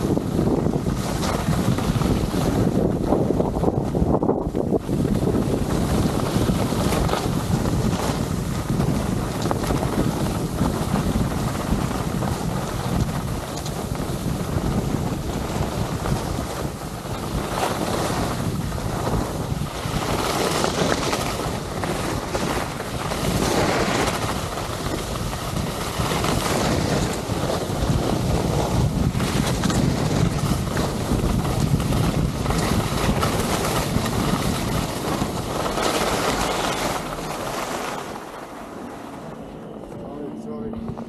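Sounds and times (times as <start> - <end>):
skis running over snow: 0.0 - 39.3
wind buffeting microphone: 0.0 - 41.0.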